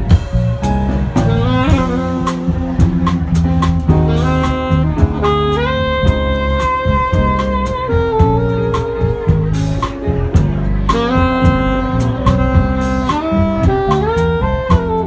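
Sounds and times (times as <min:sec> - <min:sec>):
drums keeping a steady beat: 0:00.0 - 0:15.0
electric bass: 0:00.0 - 0:15.0
saxophone melody: 0:00.0 - 0:15.0.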